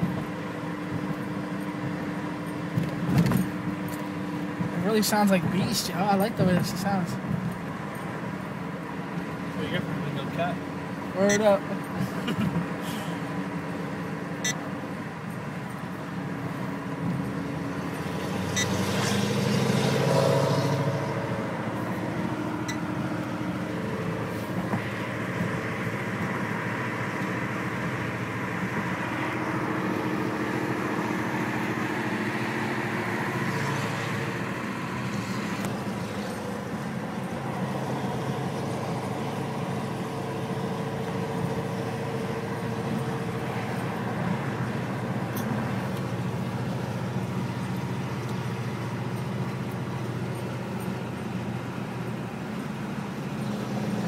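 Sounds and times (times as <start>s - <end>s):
car engine through loud exhaust: 0.0s - 54.0s.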